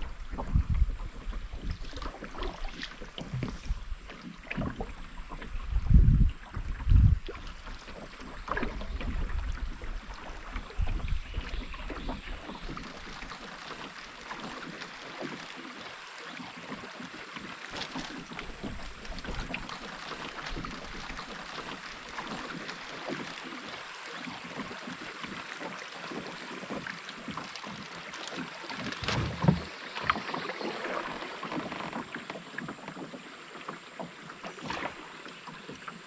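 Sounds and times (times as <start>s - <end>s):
river water lapping around canoe: 0.0s - 36.0s
small water splashes: 0.0s - 36.0s.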